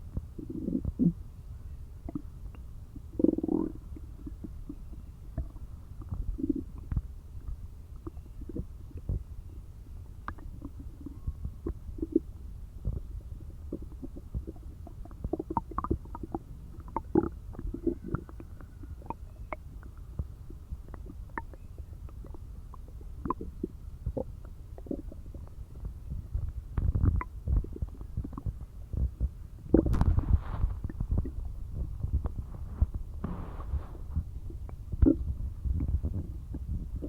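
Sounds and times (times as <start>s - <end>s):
stomach growling and gurgling: 0.0s - 1.3s, 2.0s - 37.0s.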